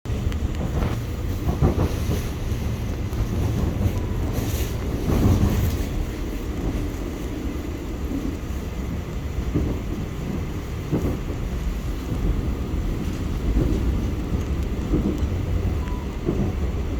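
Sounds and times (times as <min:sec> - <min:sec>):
subway train rumble: 0:00.0 - 0:16.9
train knocks: 0:00.1 - 0:07.0, 0:08.0 - 0:16.9.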